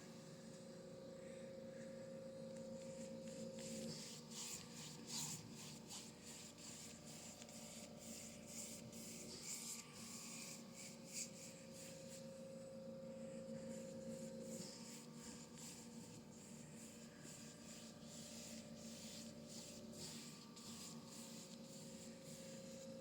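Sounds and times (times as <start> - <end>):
paintbrush strokes on canvas: 2.6 - 23.0.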